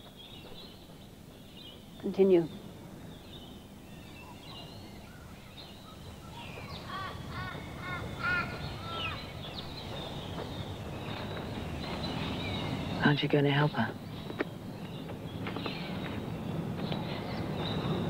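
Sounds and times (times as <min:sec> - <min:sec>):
birds chirping: 0:00.0 - 0:18.0
bird harsh calls: 0:01.4 - 0:18.0.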